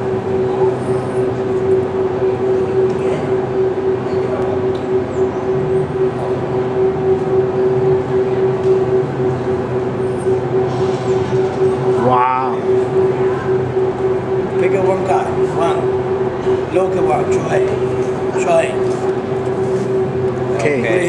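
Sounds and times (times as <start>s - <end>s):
steady machine hum: 0.0s - 21.0s.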